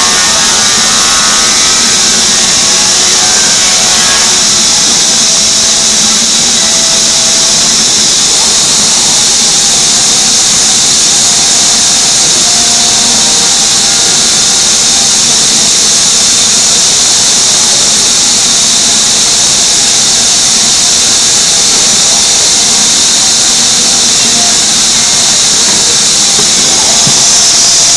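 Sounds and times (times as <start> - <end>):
router spindle cutting wood: 0.0 - 27.9.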